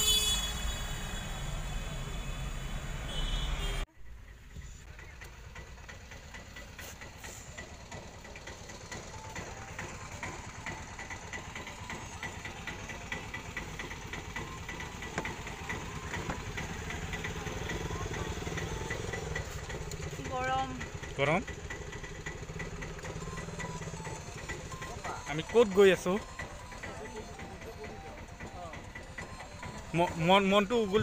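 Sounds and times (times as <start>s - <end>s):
car engine rumbling: 0.0s - 31.0s
faint regular ticking: 5.0s - 31.0s.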